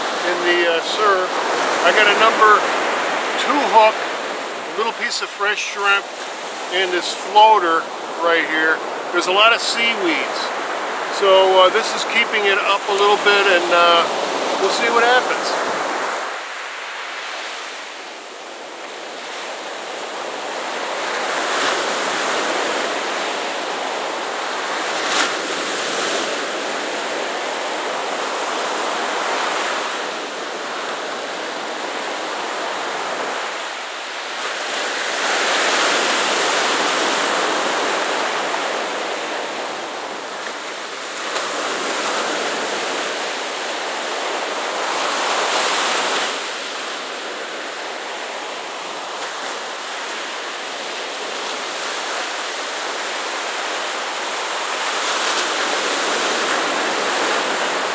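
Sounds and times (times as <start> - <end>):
ocean surf breaking on beach: 0.0 - 57.9.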